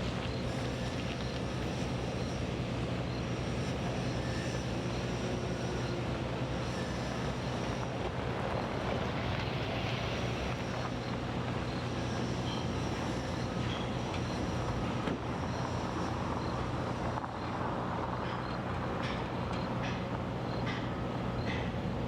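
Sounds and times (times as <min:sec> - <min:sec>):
large engine droning: 0:00.0 - 0:22.0.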